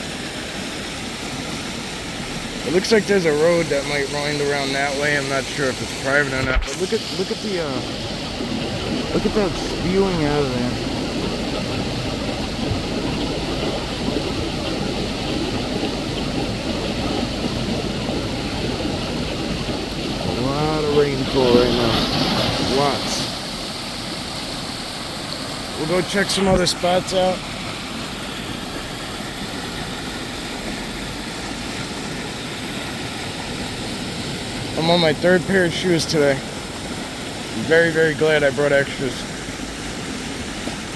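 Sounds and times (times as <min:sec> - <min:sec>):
creek rushing over rocks: 0:00.0 - 0:40.9.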